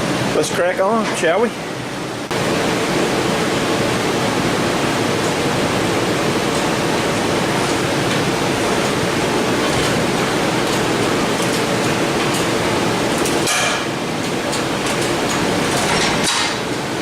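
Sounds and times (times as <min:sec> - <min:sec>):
shop heater roaring: 0:00.0 - 0:17.0.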